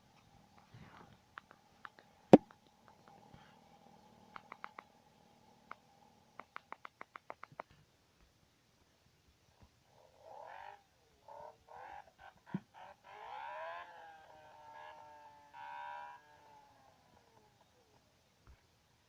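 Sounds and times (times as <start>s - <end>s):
faint motorcycle engine revving: 0.0s - 8.3s, 9.0s - 19.0s.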